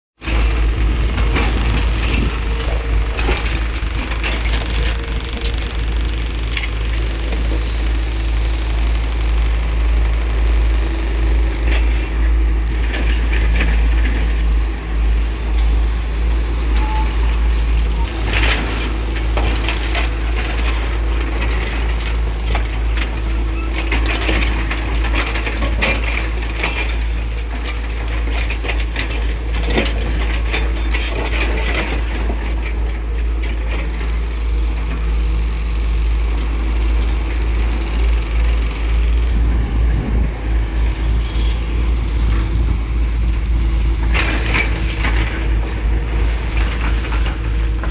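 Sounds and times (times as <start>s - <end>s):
excavator diesel hum: 0.2s - 47.9s.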